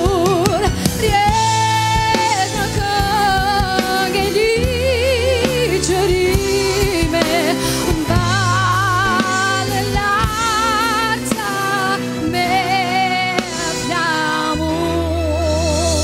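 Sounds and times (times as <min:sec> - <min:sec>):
bass line: 0:00.0 - 0:16.0
drums: 0:00.0 - 0:16.0
violins: 0:00.0 - 0:16.0
woman singing with vibrato: 0:00.0 - 0:16.0.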